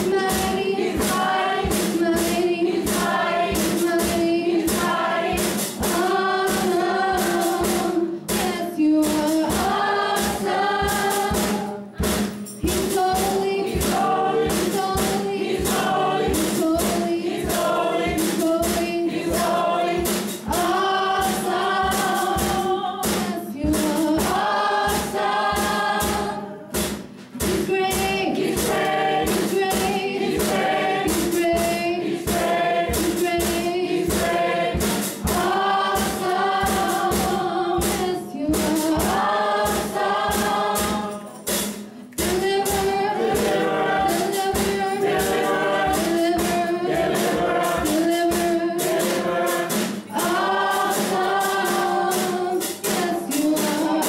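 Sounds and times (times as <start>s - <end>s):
girl singing gospel song: 0.0s - 26.7s, 27.5s - 54.0s
drum kit beat: 0.0s - 54.0s.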